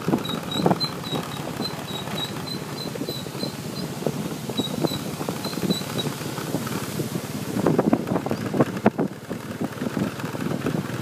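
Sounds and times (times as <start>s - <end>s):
motorbike engine: 0.0s - 11.0s
wind buffeting microphone: 0.0s - 11.0s.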